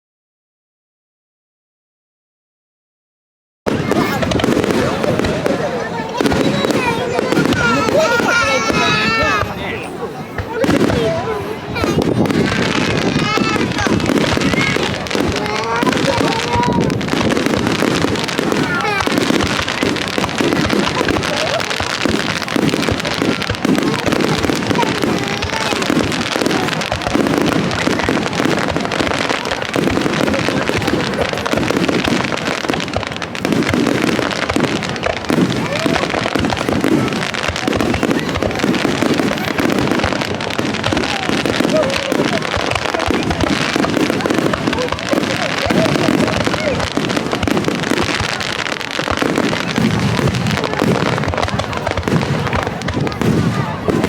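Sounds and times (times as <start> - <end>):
fireworks crackling bangs: 3.7 - 54.0
fireworks rumbling: 3.7 - 54.0.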